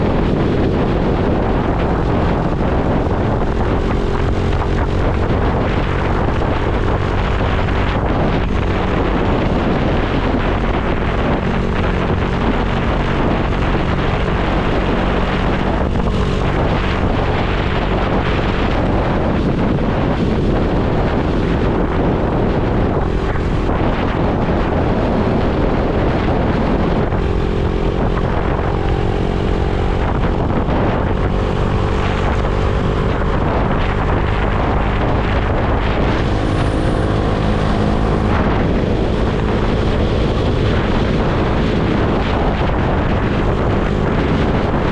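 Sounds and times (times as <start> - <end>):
motorcycle engine running: 0.0 - 44.9
wind rush on microphone: 0.0 - 44.9.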